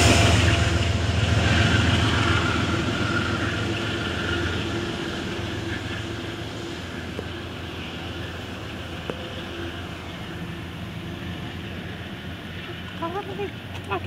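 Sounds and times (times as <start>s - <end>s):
locomotive low drone: 0.0s - 14.0s
train rumbling: 0.0s - 14.0s.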